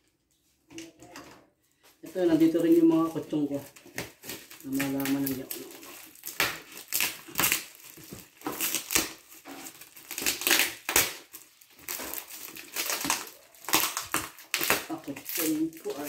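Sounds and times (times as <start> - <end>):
plastic crinkling: 1.8 - 16.0
scissors cutting plastic: 2.2 - 16.0.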